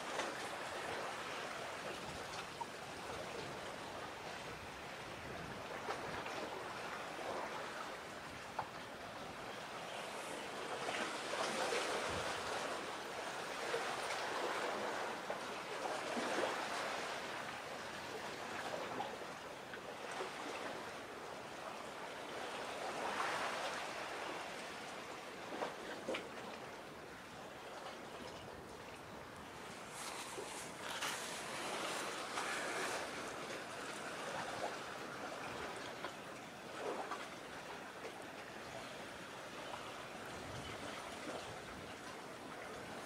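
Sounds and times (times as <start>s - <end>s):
sea waves washing ashore: 0.0s - 43.0s.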